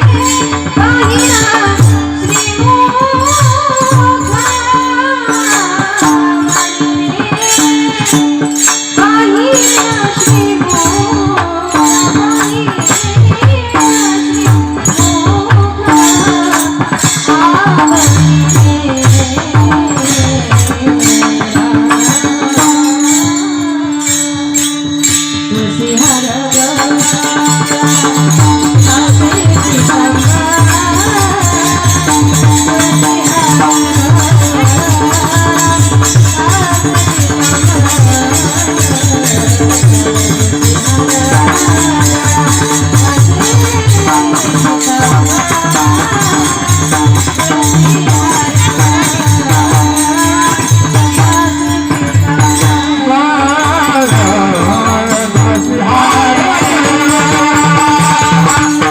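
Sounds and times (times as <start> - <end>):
hand drum beat: 0.0 - 58.9
small hand cymbals: 0.0 - 58.9
woman singing: 0.0 - 58.9.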